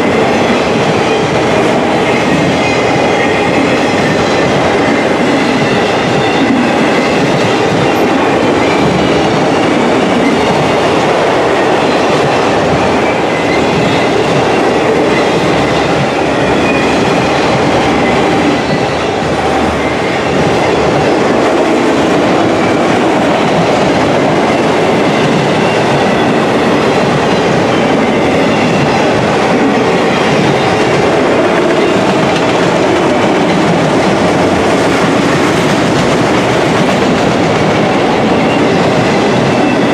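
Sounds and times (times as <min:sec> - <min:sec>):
clickety-clack over rail joints: 0:00.0 - 0:39.9
train wheels rumbling on rails: 0:00.0 - 0:39.9.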